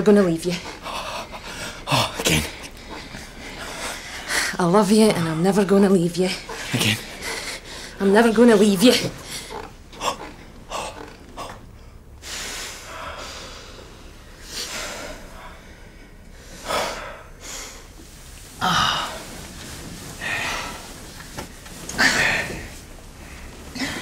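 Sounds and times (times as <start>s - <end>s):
person breathing heavily: 0.4s - 5.3s, 6.3s - 8.1s, 9.1s - 18.0s, 18.6s - 19.5s, 20.1s - 21.1s, 21.9s - 24.0s.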